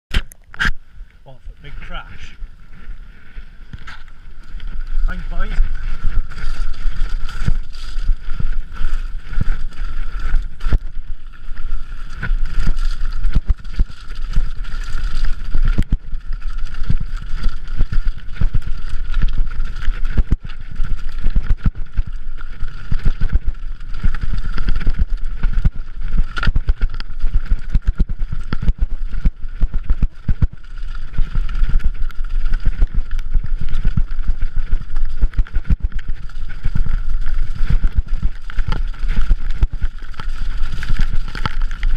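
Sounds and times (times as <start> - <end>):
mountain bike rattling over rocks: 1.7 - 41.9.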